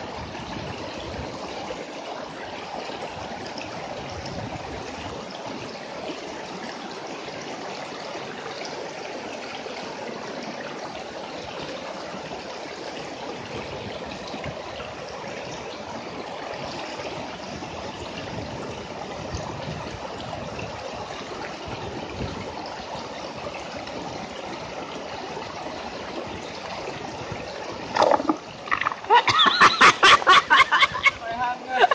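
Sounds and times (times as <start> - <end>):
river water rushing over rocks: 0.0 - 31.9.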